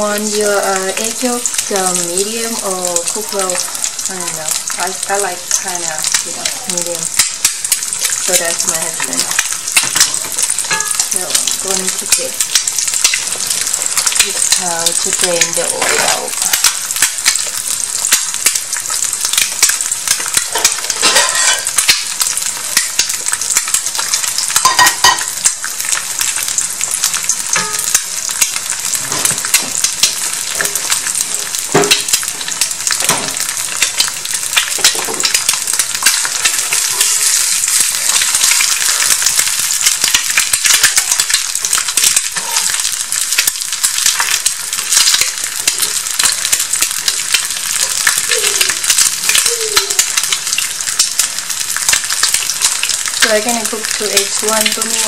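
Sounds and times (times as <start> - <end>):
egg sizzling in hot oil: 0.0 - 55.0
oil crackling spatters: 0.0 - 55.0.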